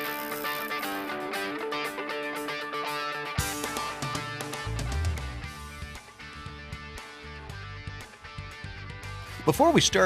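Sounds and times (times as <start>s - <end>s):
instrumental guitar music with beat: 0.0s - 10.0s.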